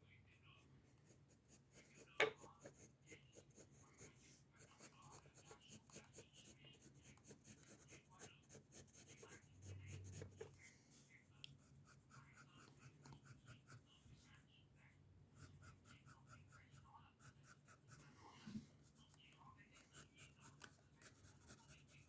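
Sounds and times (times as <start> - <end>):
pencil scratching on paper: 0.3 - 14.4, 15.4 - 22.0.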